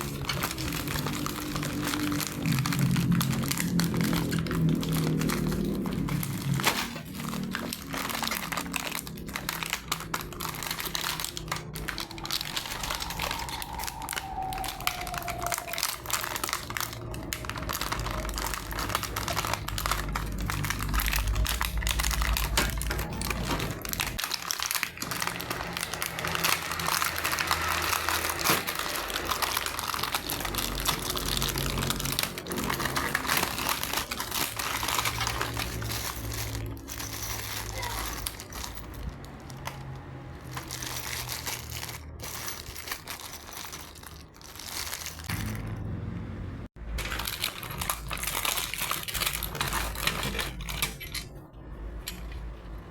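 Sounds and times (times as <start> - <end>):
plastic packaging crinkling: 0.0 - 45.6, 46.9 - 51.2.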